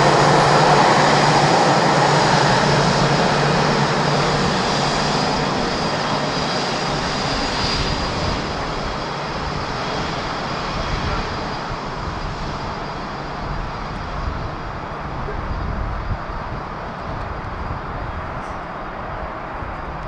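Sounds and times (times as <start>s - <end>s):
jet engines whining at taxi: 0.0s - 20.0s.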